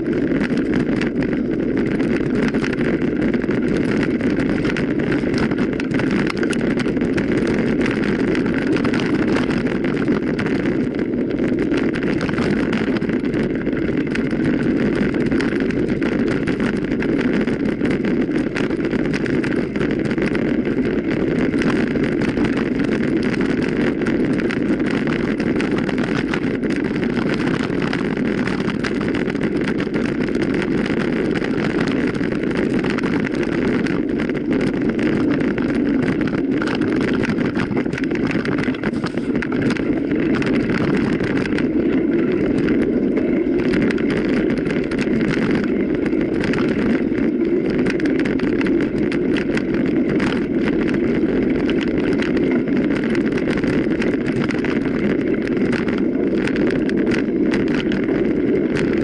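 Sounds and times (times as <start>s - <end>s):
bike rattling and knocking: 0.0s - 59.0s
wind and tyre noise: 0.0s - 59.0s.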